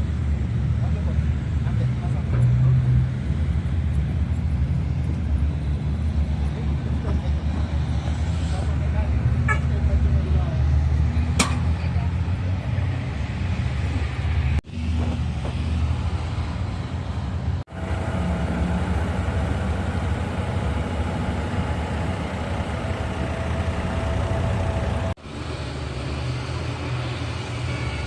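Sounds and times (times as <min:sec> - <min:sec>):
heavy diesel engine rumbling: 0:00.0 - 0:28.0.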